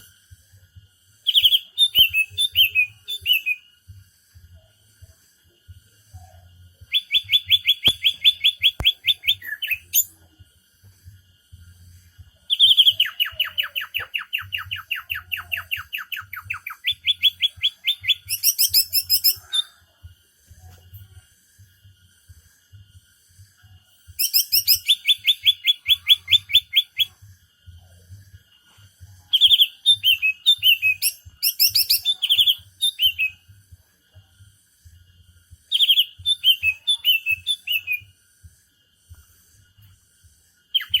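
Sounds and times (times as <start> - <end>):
songbird chirping: 0.0 - 41.0.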